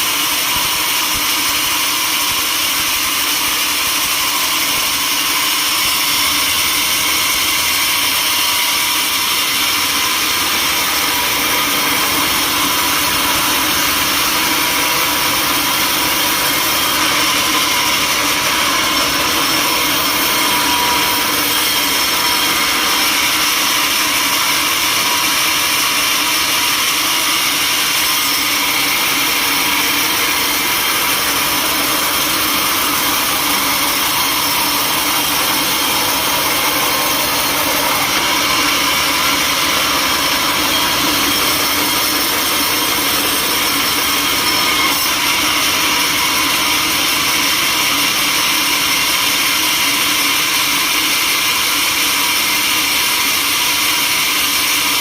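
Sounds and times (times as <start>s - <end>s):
sawmill machinery whirring: 0.0s - 55.0s.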